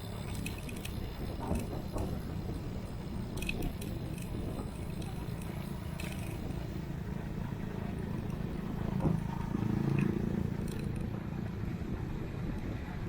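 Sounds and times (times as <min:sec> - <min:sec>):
low droning hum: 0:00.0 - 0:13.0
traffic: 0:00.0 - 0:13.0.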